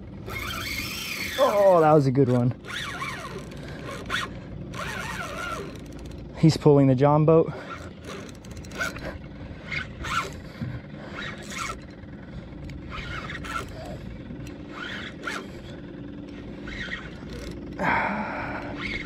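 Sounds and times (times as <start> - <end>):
fishing reel rasping: 0.2 - 6.3, 7.5 - 12.0, 12.6 - 19.0.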